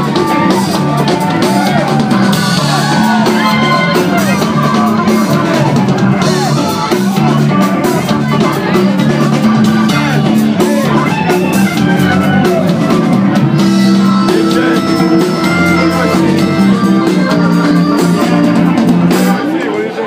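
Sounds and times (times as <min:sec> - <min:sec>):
live funk band playing: 0:00.0 - 0:20.0.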